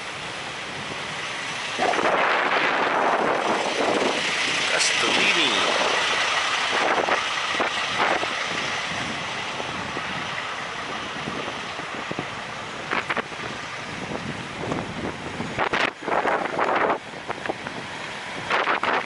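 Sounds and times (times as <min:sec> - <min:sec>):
road vehicle noise: 0:00.0 - 0:19.0.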